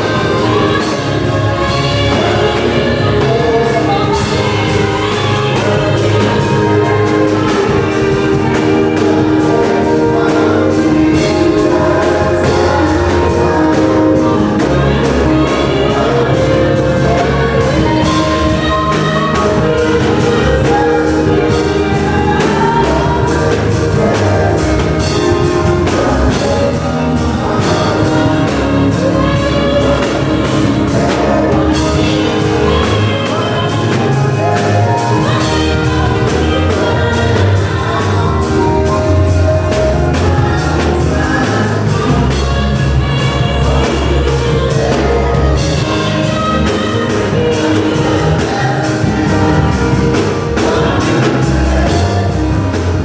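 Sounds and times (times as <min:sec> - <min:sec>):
band with steady beat: 0:00.0 - 0:53.0
person singing: 0:00.0 - 0:53.0.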